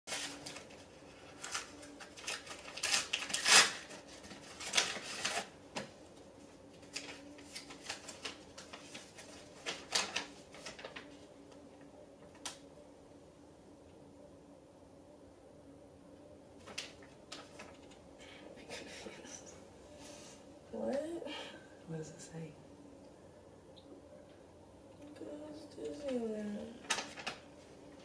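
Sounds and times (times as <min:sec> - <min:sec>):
faint steady hum: 0:00.1 - 0:28.0.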